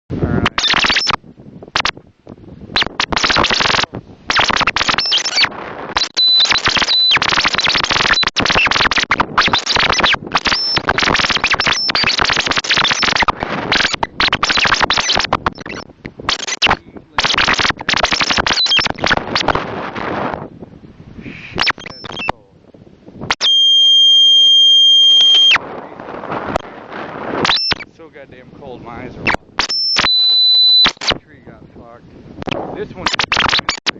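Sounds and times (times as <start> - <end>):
gusting wind on microphone: 0.1 - 33.9.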